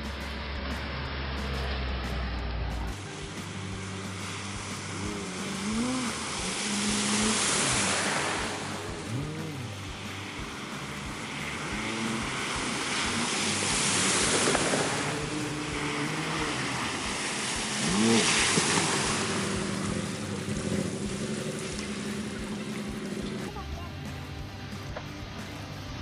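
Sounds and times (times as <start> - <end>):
off-road engines revving: 0.0 - 26.0
water rushing and tyres splashing: 0.0 - 26.0.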